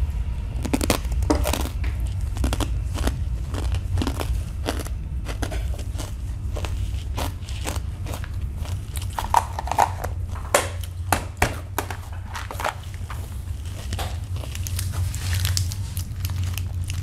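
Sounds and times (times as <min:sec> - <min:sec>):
steady low hum: 0:00.0 - 0:17.0
chewing crunchy snack: 0:00.6 - 0:11.0, 0:12.2 - 0:17.0.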